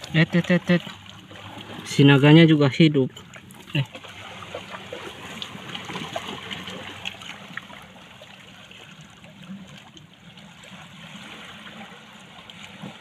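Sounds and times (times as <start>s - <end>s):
water rushing and trickling: 0.0s - 13.0s.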